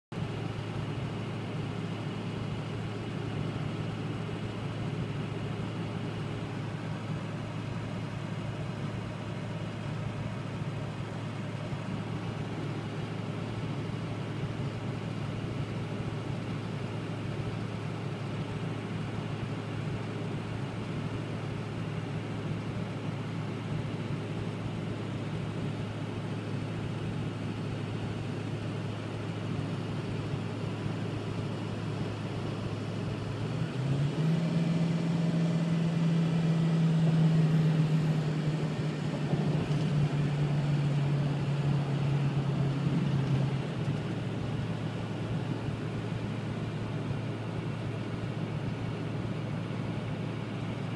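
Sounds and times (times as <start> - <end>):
car cabin drone: 0.2 - 50.9.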